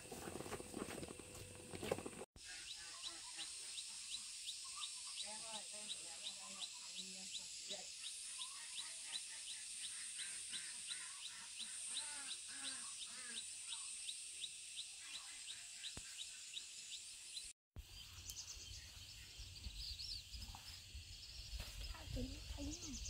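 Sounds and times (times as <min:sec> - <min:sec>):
bird calls: 0:02.4 - 0:23.0
high insect-like hiss: 0:02.5 - 0:23.0.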